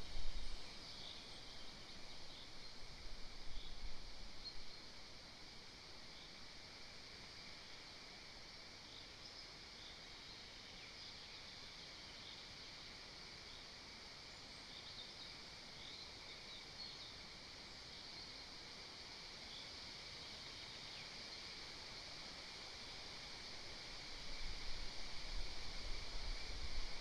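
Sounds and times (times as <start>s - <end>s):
forest ambience hiss: 0.0s - 27.0s.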